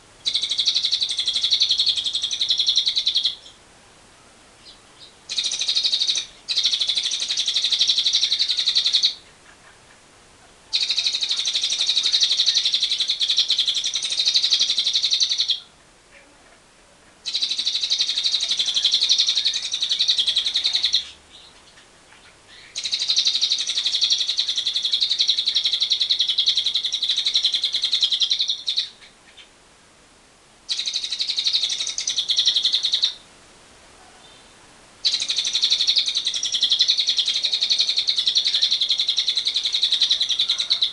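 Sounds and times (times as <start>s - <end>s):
lovebird chattering trill: 0.2s - 3.6s, 4.6s - 10.0s, 10.7s - 15.7s, 17.2s - 29.6s, 30.7s - 33.2s, 34.2s - 40.9s.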